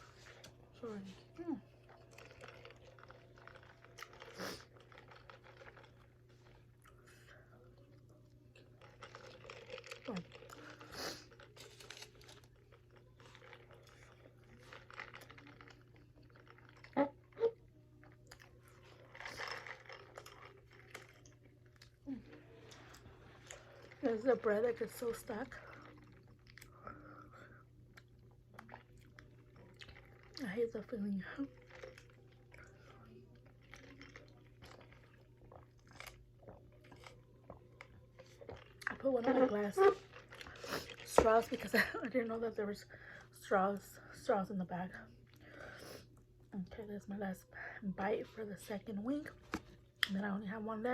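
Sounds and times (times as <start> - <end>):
chewing crunchy food: 0.0 - 41.8.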